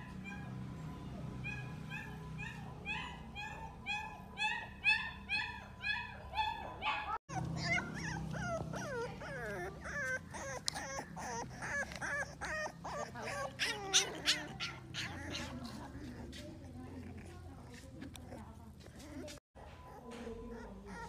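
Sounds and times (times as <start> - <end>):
puppy whimpering: 1.4 - 21.0.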